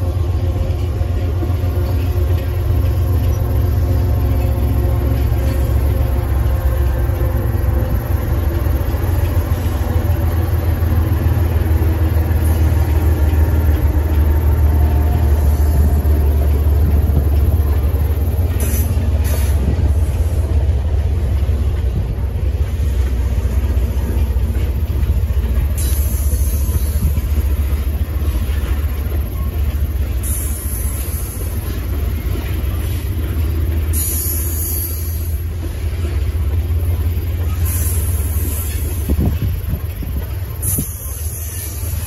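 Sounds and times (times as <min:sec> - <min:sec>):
diesel locomotive engine: 0:00.0 - 0:42.0
rail cars rumbling on rails: 0:00.0 - 0:42.0.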